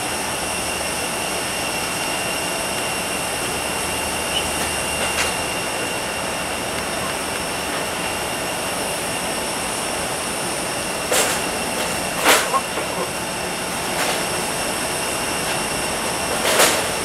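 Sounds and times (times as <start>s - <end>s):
jet engine whine and rush: 0.0s - 17.0s.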